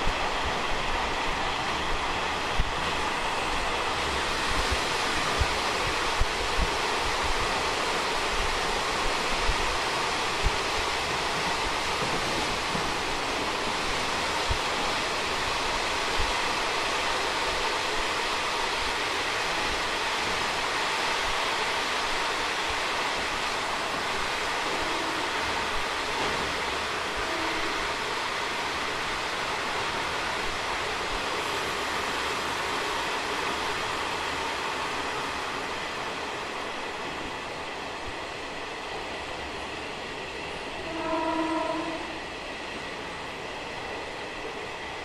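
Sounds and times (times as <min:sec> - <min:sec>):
train coach rumbling on rails: 0:00.0 - 0:45.0.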